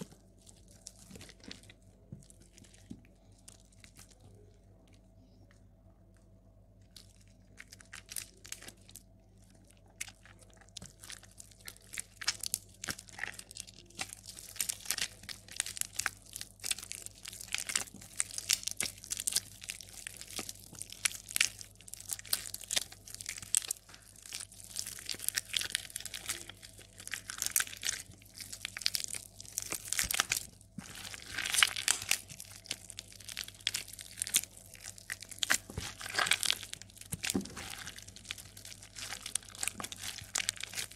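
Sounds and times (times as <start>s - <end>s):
wet soap crackling and crunching: 0.0s - 40.9s.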